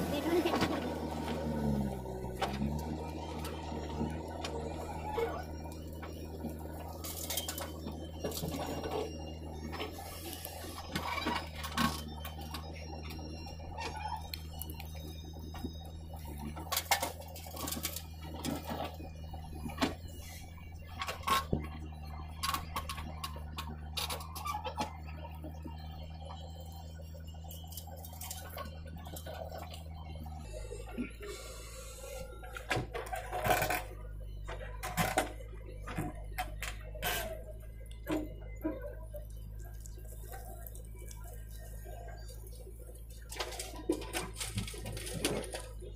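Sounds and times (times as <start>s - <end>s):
backhoe clattering and knocking: 0.0s - 31.2s, 32.2s - 45.9s
diesel engines humming: 0.0s - 45.9s.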